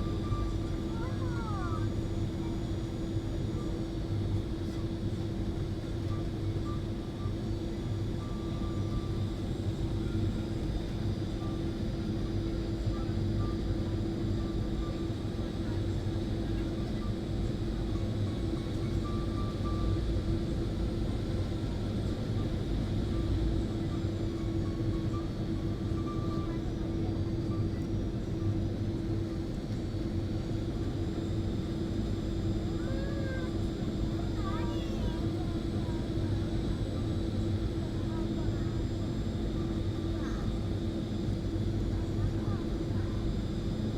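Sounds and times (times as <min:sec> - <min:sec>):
constant low drone: 0:00.0 - 0:43.9
jet engines rumbling in cabin: 0:00.0 - 0:43.9.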